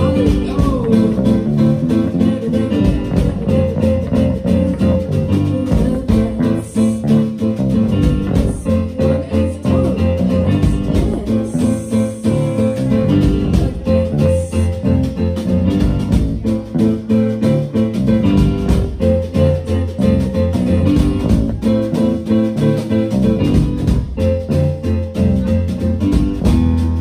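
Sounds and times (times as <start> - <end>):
bass guitar: 0.0 - 27.0
drums: 0.0 - 27.0
electric guitar: 0.0 - 27.0.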